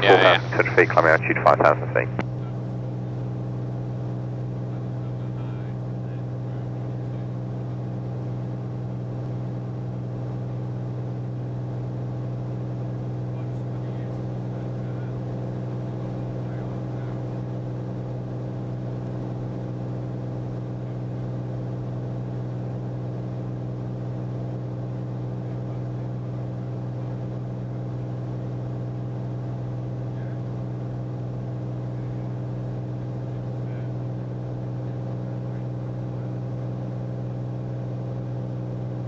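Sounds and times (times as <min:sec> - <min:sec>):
aircraft engine droning in cabin: 0:00.0 - 0:39.0.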